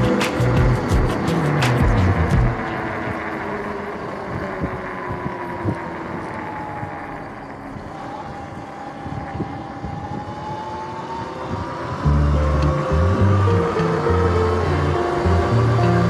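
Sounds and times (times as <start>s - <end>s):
electric motor whining: 0.0s - 16.0s
wind noise: 0.0s - 16.0s.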